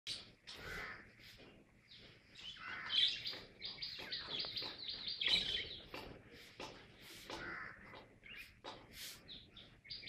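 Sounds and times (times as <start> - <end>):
small birds chirping: 0.1 - 10.0.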